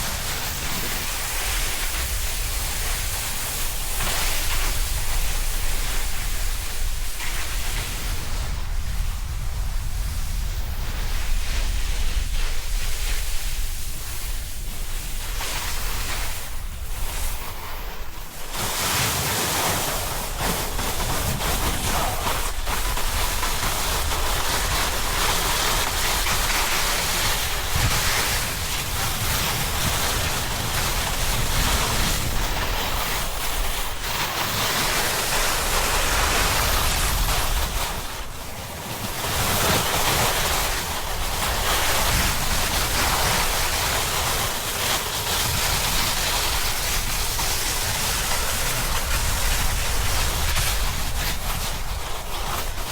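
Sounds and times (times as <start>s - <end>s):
snowboard scraping over snow: 0.0s - 52.9s
wind buffeting microphone: 0.0s - 52.9s.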